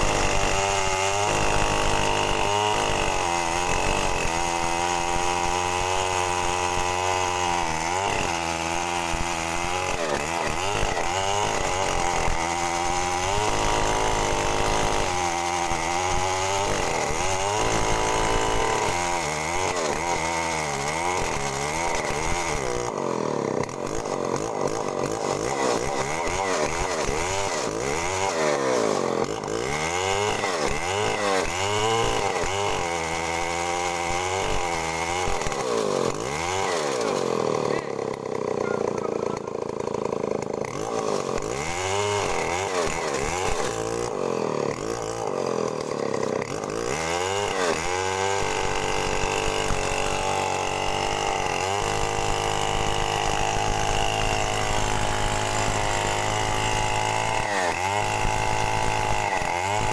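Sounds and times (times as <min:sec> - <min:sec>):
two-stroke chainsaw running: 0:00.0 - 0:59.9.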